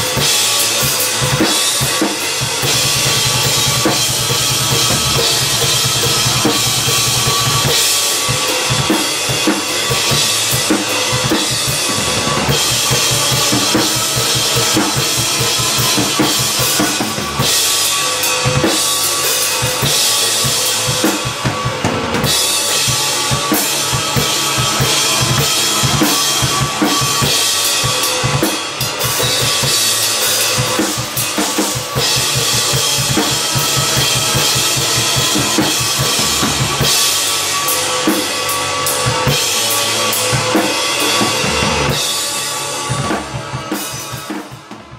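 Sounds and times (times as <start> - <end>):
drum kit groove: 0.0 - 44.9
looped guitar: 0.0 - 44.9.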